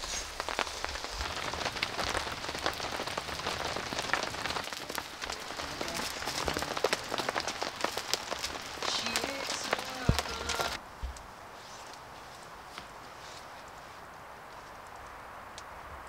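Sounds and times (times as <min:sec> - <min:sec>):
rain pattering on a tarp: 0:00.0 - 0:16.0.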